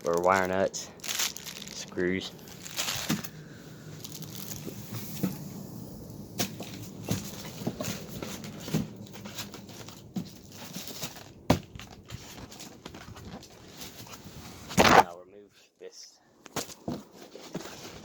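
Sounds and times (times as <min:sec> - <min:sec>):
cardboard and plastic rustling: 0:00.0 - 0:15.2, 0:16.5 - 0:18.0.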